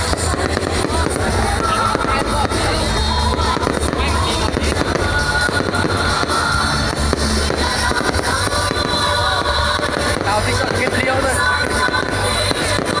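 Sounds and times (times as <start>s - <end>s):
fireworks bursting and crackling: 0.0s - 13.0s
loud music over speakers: 0.0s - 13.0s.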